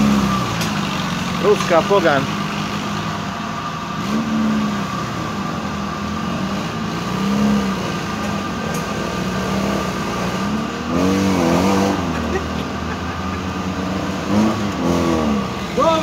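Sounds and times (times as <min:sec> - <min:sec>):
car engine running under load: 0:00.0 - 0:16.0.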